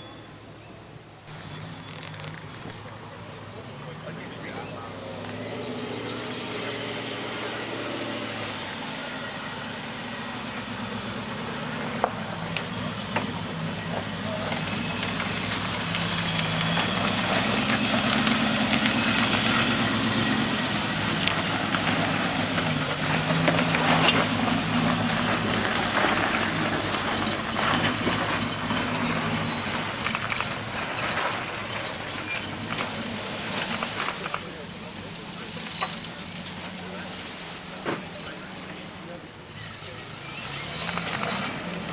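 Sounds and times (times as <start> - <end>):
engine running at low speed: 0.0 - 41.9.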